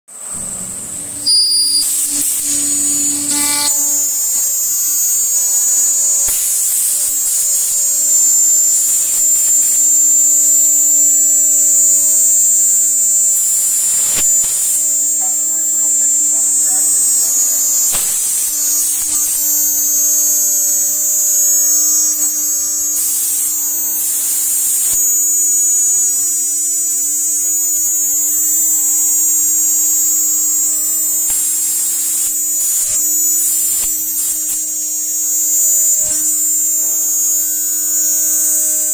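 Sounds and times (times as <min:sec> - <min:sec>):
end mill cutting metal: 0:00.1 - 0:26.8, 0:28.8 - 0:38.9
router spindle high-pitched whine: 0:00.1 - 0:38.9.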